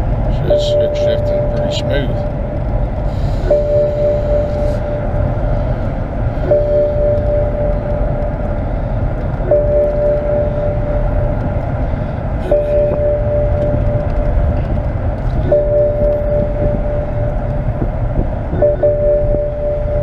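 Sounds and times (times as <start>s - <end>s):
car engine and road rumble: 0.0s - 20.0s
dashboard warning chime: 0.3s - 20.0s.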